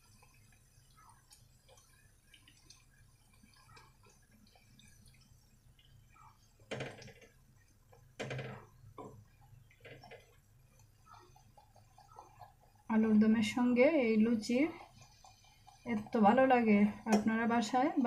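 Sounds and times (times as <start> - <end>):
oil sizzling and crackling: 0.0 - 18.0.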